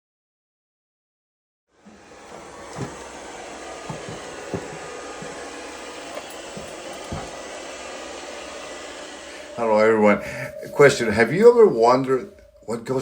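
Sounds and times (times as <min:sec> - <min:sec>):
robot vacuum whirring: 0:01.8 - 0:12.7.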